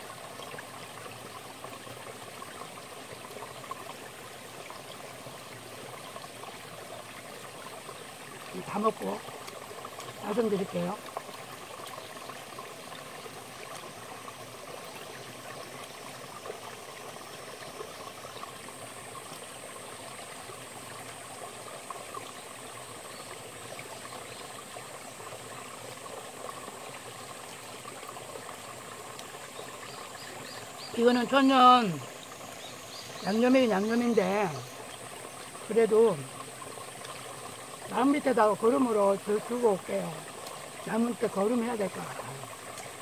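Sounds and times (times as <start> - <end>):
stream running over rocks: 0.0 - 43.0.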